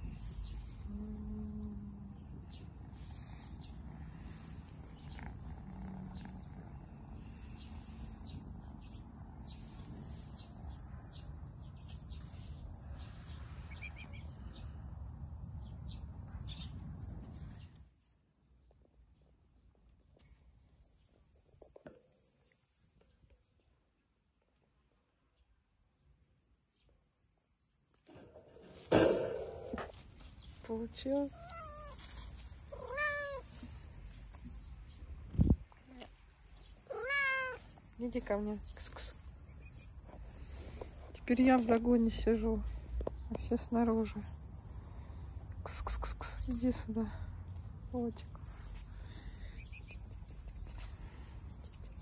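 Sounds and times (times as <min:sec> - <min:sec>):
insects chirring: 0:00.0 - 0:17.0, 0:26.8 - 0:52.0.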